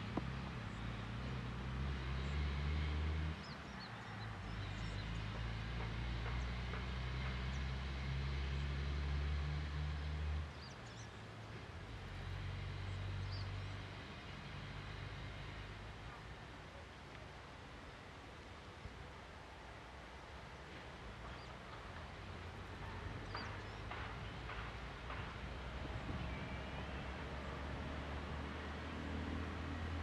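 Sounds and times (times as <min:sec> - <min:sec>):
diesel locomotive engine hum: 0:00.0 - 0:30.0.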